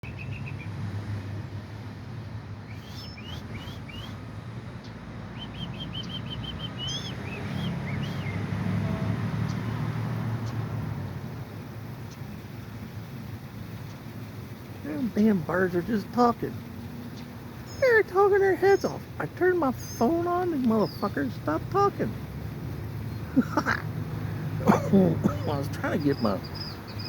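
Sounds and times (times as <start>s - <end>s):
songbirds chirping: 0.0s - 0.9s, 2.2s - 27.0s.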